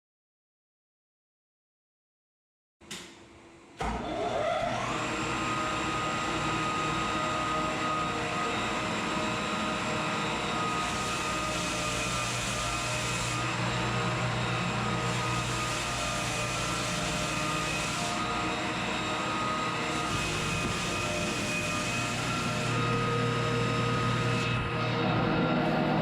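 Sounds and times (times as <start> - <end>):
floor sanding machine motor: 3.8 - 26.0.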